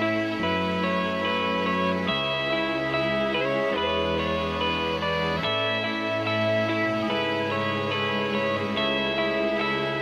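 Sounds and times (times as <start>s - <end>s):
instrumental guitar music: 0.0s - 10.0s.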